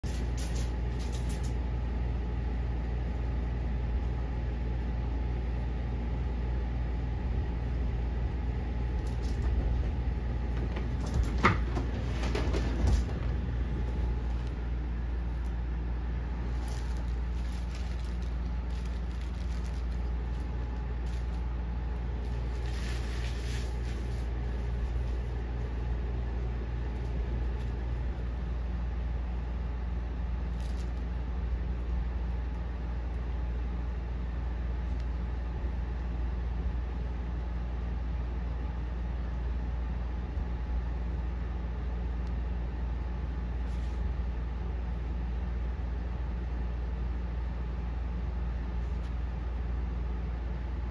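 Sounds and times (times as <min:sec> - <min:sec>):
room hum: 0:00.0 - 0:50.9.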